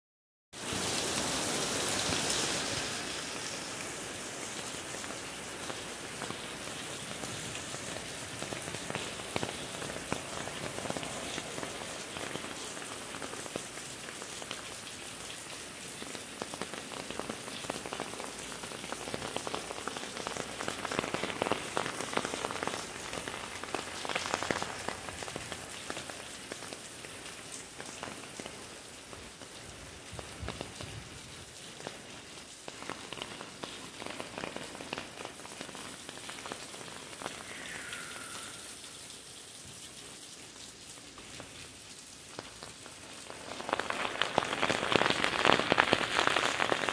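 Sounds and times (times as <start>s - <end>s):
rain on pavement: 0.6s - 46.9s.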